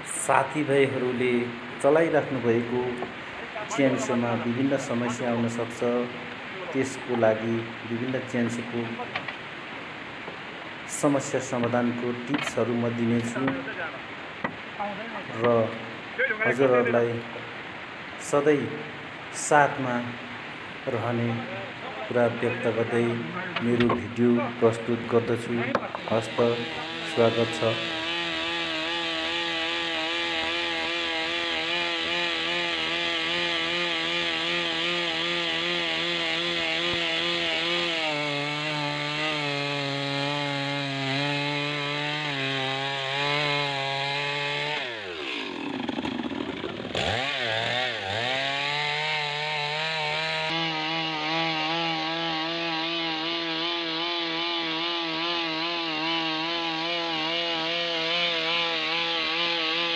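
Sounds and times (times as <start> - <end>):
chainsaw cutting log: 0.6 - 9.5, 11.4 - 13.8, 22.2 - 59.9.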